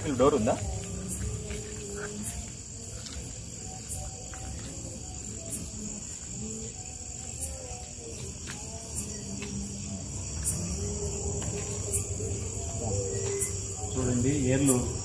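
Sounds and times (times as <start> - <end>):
bright insect chirp: 0.0 - 15.0
crickets trilling: 0.0 - 15.0.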